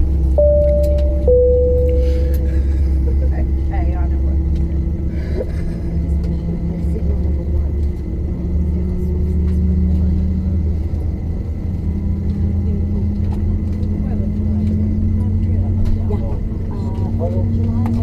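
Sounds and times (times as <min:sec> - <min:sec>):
aircraft cabin engine drone: 0:00.0 - 0:18.0.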